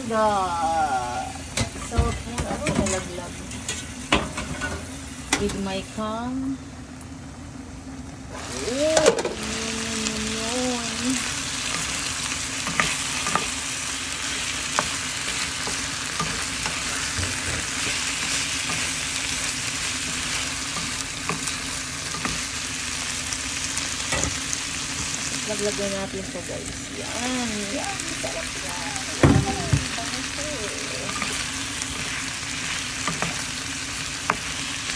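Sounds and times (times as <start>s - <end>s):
food sizzling in a frying pan: 0.0s - 34.9s.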